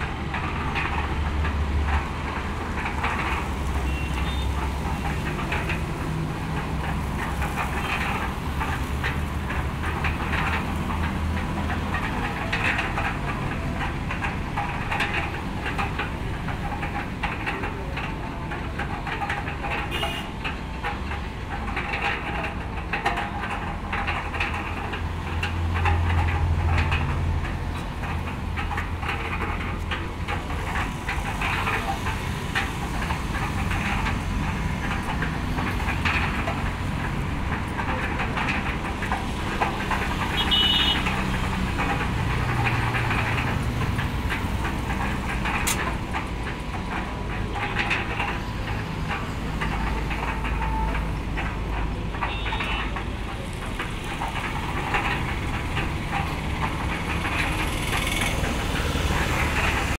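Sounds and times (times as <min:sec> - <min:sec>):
rattling of turning drum: 0:00.0 - 1:00.0.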